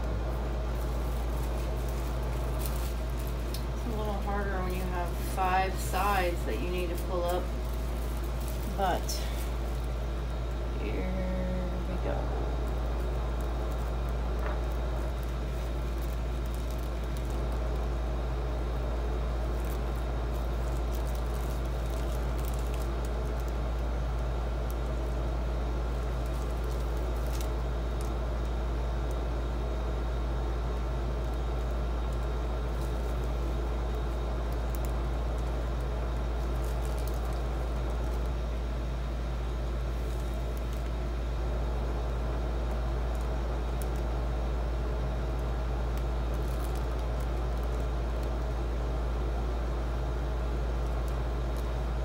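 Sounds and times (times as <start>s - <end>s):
low background hum: 0.0s - 52.0s
plastic wrap crinkling on wet paint: 0.0s - 52.0s.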